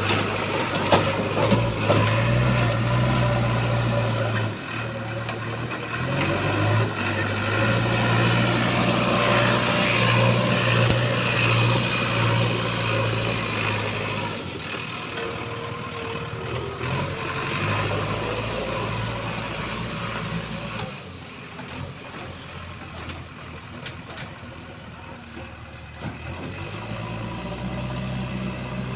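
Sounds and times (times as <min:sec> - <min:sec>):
diesel engine under load: 0:00.0 - 0:28.9.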